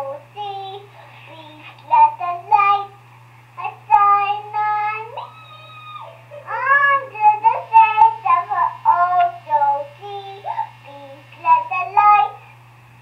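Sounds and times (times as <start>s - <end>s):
child singing through monitor speaker: 0.0s - 3.0s, 3.6s - 12.5s
steady low hum: 0.0s - 13.0s.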